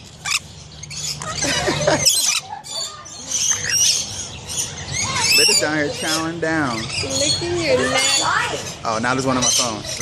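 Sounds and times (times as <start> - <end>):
small parrots squawking: 0.1 - 10.0.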